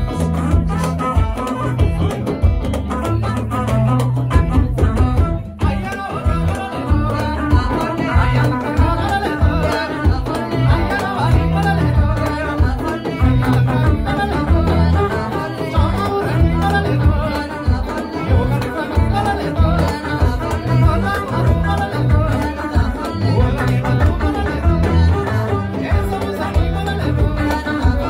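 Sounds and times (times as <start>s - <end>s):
people singing: 0.0s - 2.8s, 4.3s - 28.0s.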